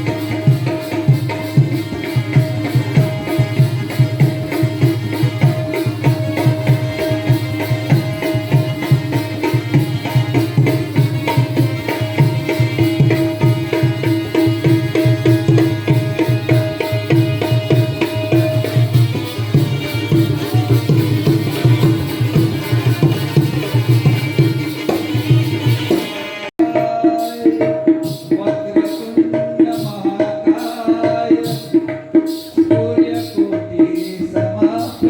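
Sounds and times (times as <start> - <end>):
hand drum rapid strokes: 0.0 - 35.0.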